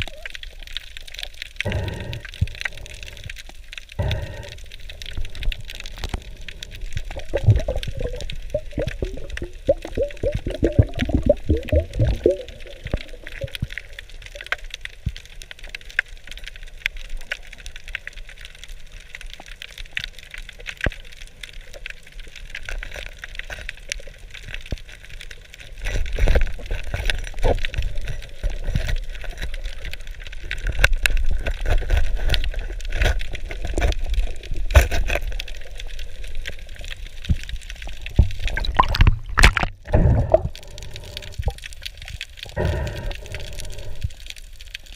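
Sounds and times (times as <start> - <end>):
bubbling gurgles: 0.0 - 15.9, 21.1 - 44.9
underwater fine crackling: 0.0 - 44.9.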